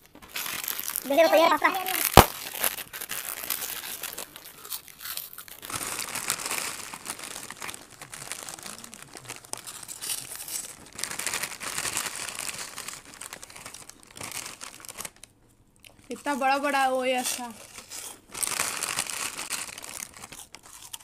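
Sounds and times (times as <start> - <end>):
crisps crunching while chewed: 0.0 - 21.0
plastic chip packets rustling: 0.0 - 21.0.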